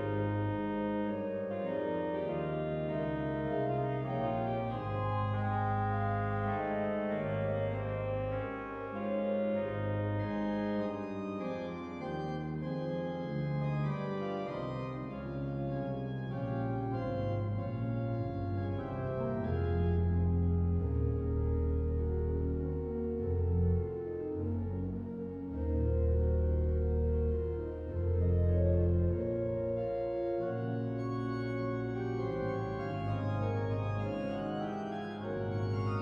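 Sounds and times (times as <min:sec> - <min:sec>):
pipe organ playing romantic music: 0:00.0 - 0:36.0.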